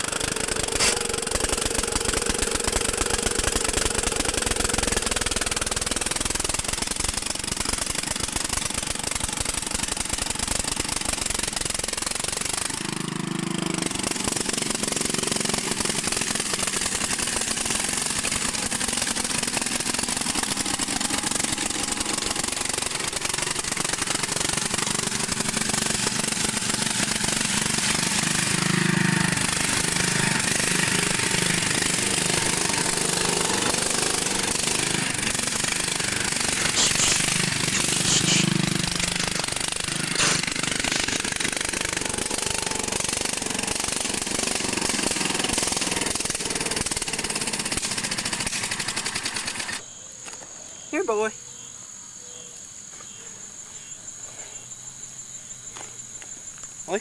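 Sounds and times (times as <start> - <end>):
garden tractor engine running: 0.0 - 49.8.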